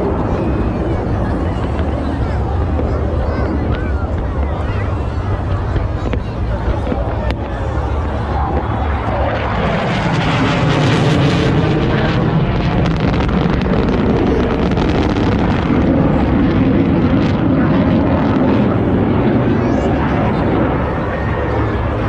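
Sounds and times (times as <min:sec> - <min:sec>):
airplane flying past: 0:00.0 - 0:22.0.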